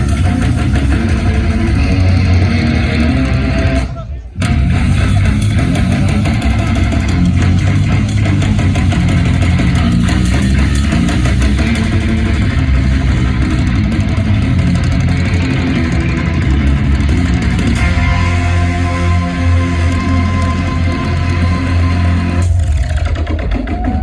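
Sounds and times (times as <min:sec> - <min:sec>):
distorted electric guitars: 0:00.0 - 0:24.0
fast dense drumming: 0:00.0 - 0:24.0
heavy bass: 0:00.0 - 0:24.0.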